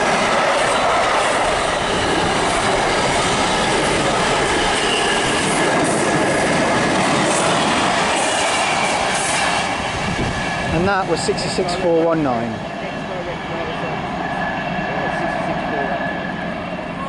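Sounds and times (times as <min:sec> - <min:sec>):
steel train wheels on rails: 0:00.0 - 0:17.0.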